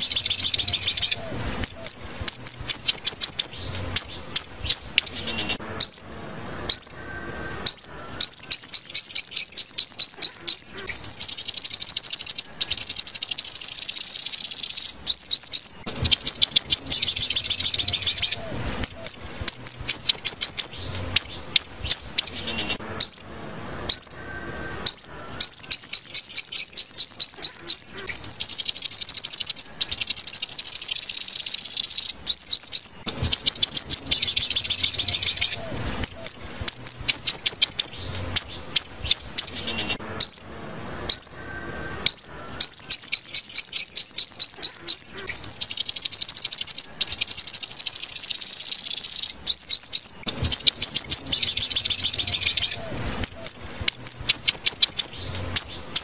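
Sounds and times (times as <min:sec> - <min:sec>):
bird chirps and trills: 0:00.0 - 0:56.0.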